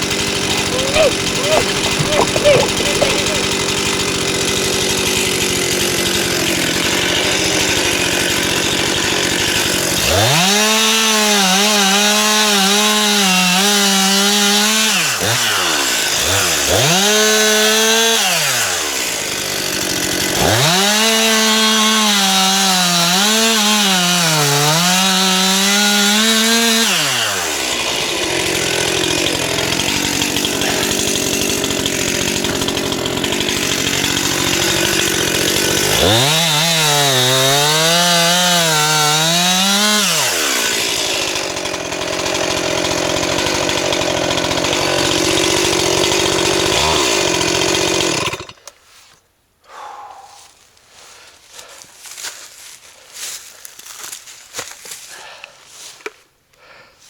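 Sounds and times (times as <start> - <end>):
chainsaw revving and idling: 0.0 - 48.7
chainsaw cutting wood: 0.0 - 48.8, 51.7 - 55.3.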